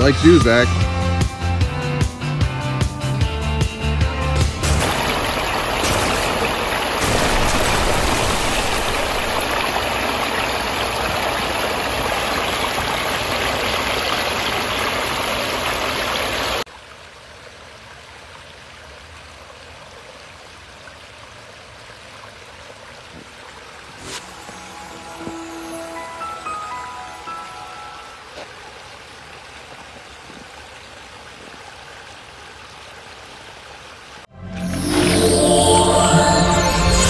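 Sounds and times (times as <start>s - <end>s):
waterfall splashing over stones: 4.5s - 34.3s.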